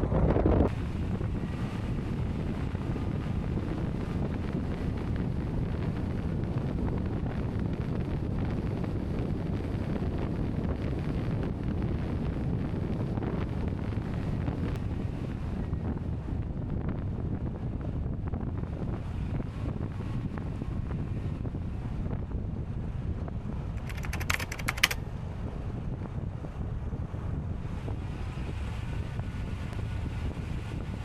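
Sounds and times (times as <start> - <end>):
constant low rumble: 0.0 - 31.0
wind buffeting microphone: 0.0 - 31.0.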